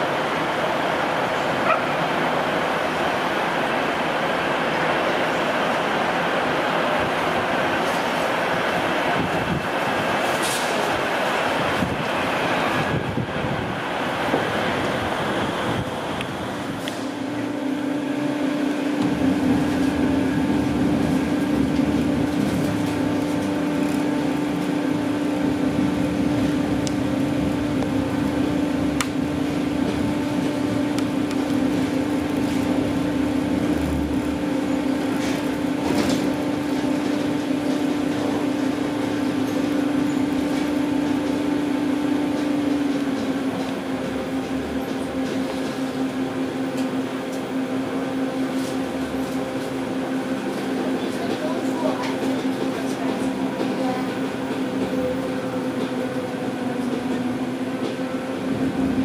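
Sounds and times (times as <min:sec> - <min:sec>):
tram traction hum: 0:00.0 - 0:59.0
wheel on rail rumble: 0:00.0 - 0:59.0.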